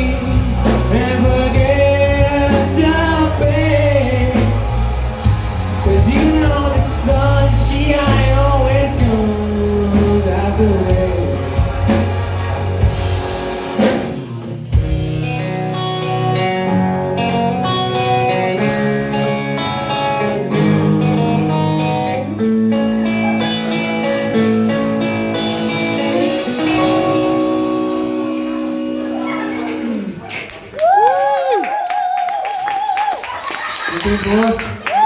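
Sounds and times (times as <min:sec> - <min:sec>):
guitar picked melody: 0:00.0 - 0:30.2
bass guitar: 0:00.0 - 0:30.4.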